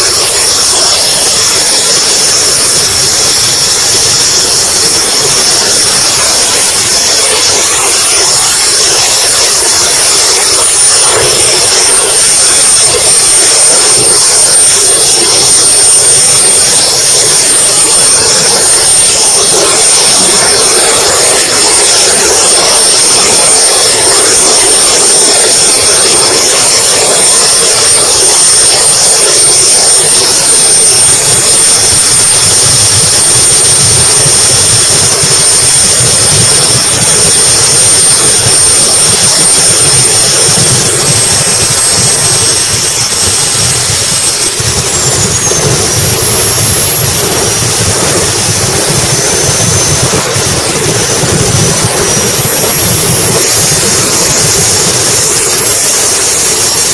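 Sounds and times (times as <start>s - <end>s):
jet turbine whine: 0.0s - 56.9s
wind rush: 0.0s - 56.9s.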